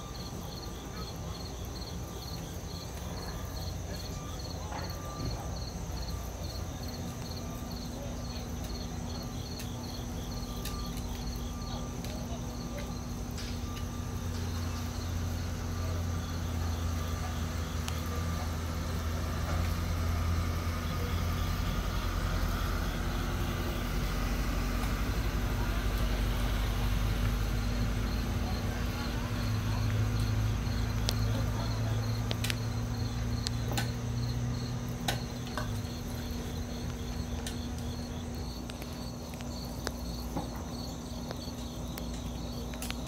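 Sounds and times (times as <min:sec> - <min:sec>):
insects chirping: 0:00.0 - 0:43.0
truck engine idling: 0:00.0 - 0:43.0.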